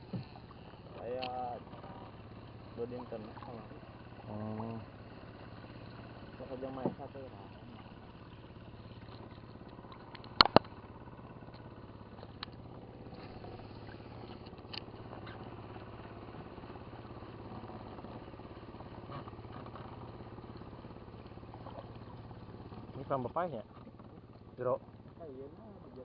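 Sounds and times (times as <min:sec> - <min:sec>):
small boat engine idling: 0:00.0 - 0:26.0.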